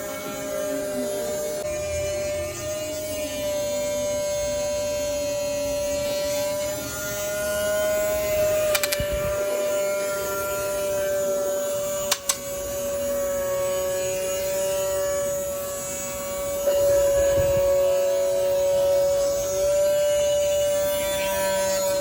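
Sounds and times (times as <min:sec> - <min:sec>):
small motor humming: 0:00.0 - 0:22.0.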